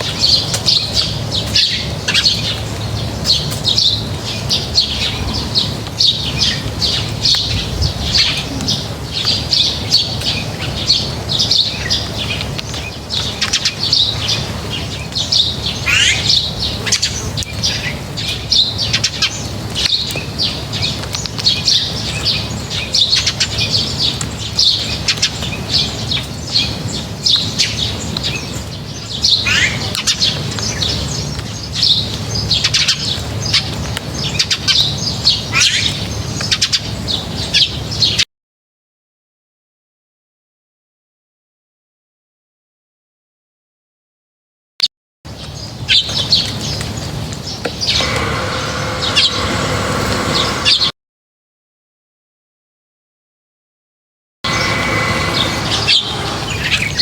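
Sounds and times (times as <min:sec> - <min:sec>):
small birds chirping: 0:00.0 - 0:38.2, 0:45.3 - 0:50.9, 0:54.5 - 0:57.0.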